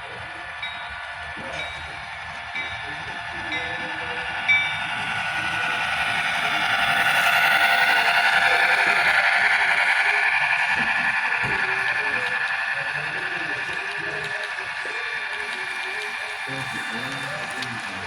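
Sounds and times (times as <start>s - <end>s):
model train whirring hum: 0.0s - 18.0s.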